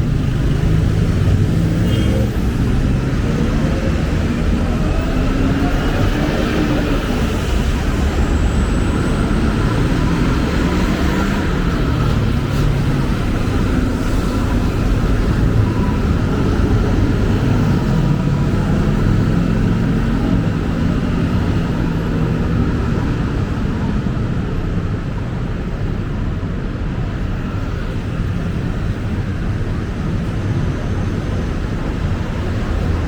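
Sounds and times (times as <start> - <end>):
city street traffic: 0.0 - 33.0.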